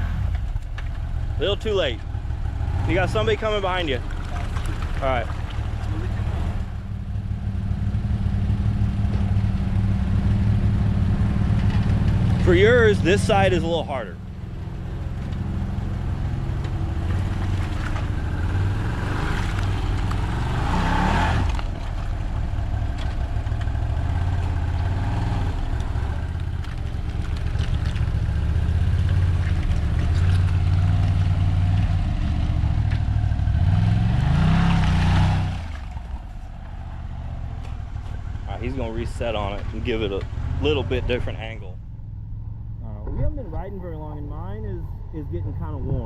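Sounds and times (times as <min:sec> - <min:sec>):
off-road vehicle engines revving: 0:00.0 - 0:46.0.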